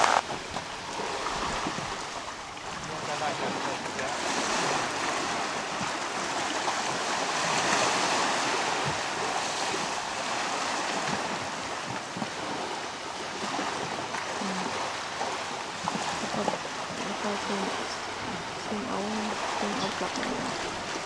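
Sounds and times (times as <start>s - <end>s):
sea waves washing: 0.0s - 21.0s.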